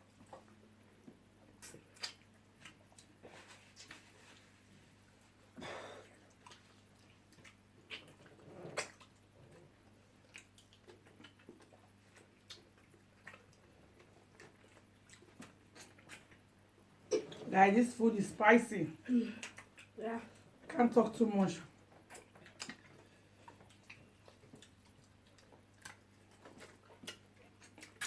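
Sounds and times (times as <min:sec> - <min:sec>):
people chewing: 0:00.1 - 0:17.5, 0:19.1 - 0:20.7, 0:21.8 - 0:28.0.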